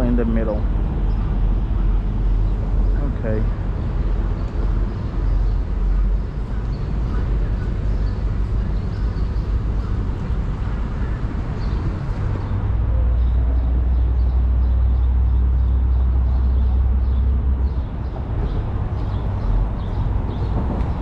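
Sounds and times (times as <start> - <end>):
low rumble of highway traffic: 0.0 - 21.0.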